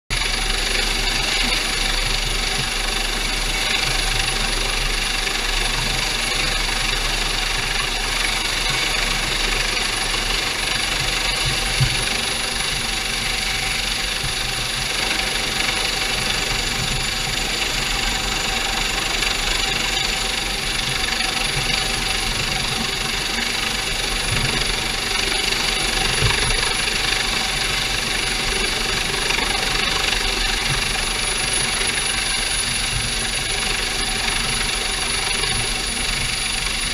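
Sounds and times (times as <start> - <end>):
boat engines running: 0.1 - 36.9
helicopter hovering: 0.1 - 36.9.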